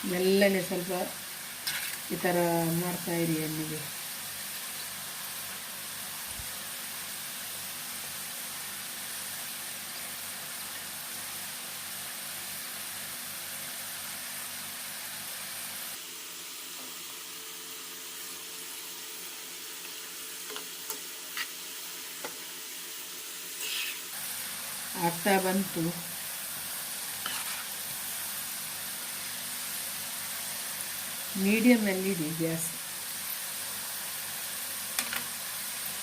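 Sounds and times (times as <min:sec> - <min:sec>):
potatoes sizzling in hot oil: 0:00.0 - 0:36.0.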